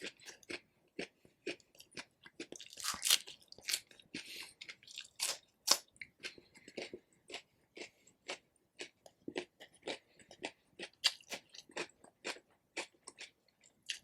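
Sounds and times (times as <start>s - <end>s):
chewing and crunching chicken: 0.0s - 14.0s.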